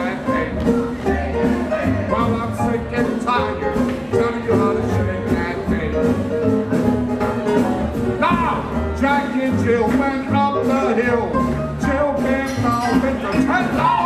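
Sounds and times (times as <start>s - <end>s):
upbeat swing jazz music: 0.0s - 14.0s.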